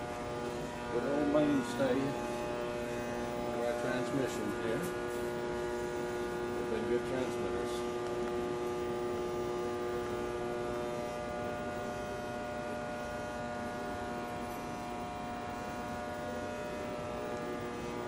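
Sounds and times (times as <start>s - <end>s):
transmitter electrical hum: 0.0s - 18.0s.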